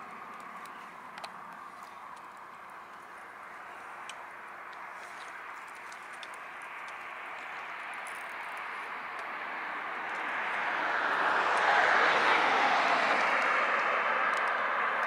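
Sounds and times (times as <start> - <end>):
vehicle running: 0.0 - 15.0.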